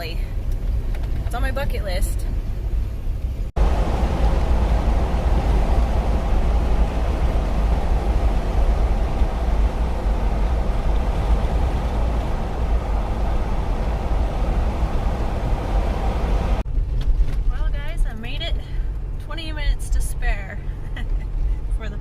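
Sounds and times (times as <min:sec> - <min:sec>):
car engine low rumble: 0:00.0 - 0:22.0.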